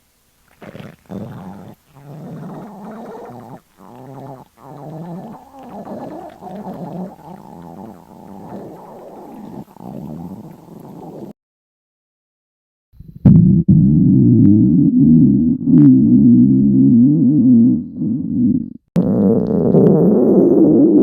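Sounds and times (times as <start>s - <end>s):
stomach growling: 0.5s - 11.3s, 13.2s - 21.0s.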